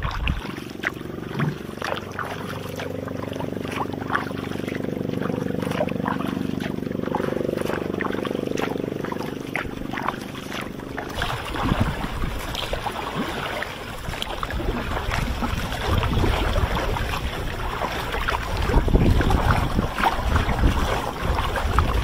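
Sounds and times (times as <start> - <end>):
kayak paddle splashing water: 0.0 - 22.0
wind rumble on microphone: 0.0 - 22.0.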